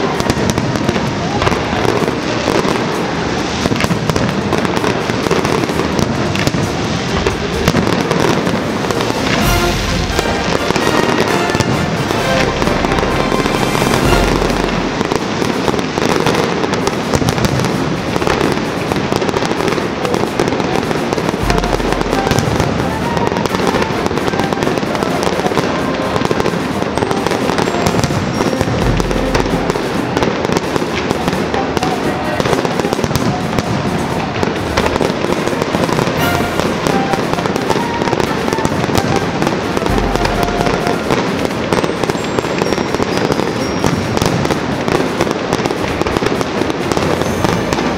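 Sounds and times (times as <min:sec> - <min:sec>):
deep fireworks booms: 0:00.0 - 0:47.9
fireworks bangs and crackling: 0:00.0 - 0:47.9.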